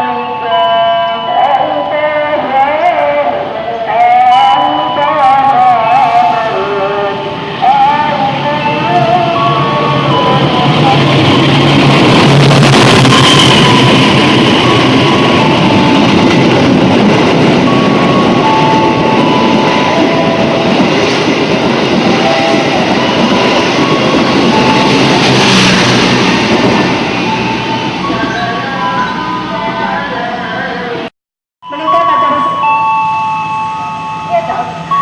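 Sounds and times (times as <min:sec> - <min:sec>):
train passing at speed: 0:00.0 - 0:31.1, 0:31.8 - 0:35.0.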